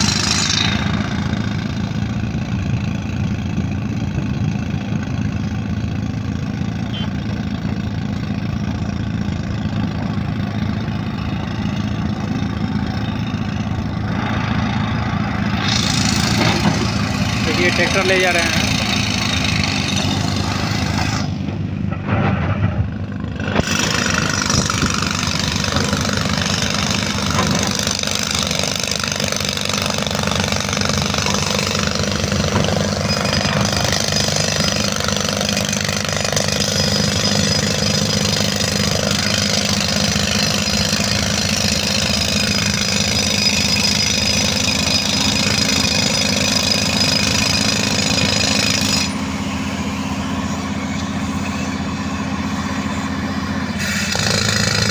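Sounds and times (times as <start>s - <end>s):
diesel tractor engine rattling: 0.0s - 54.9s.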